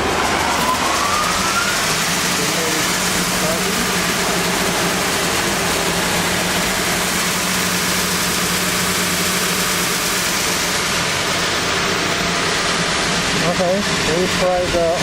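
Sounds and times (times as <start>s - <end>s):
sanding machine humming: 0.0s - 15.0s.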